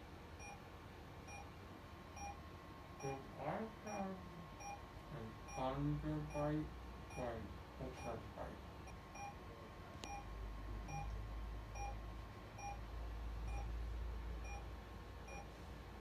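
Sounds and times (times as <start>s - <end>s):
monitor beeping: 0.4s - 9.4s, 10.0s - 15.5s.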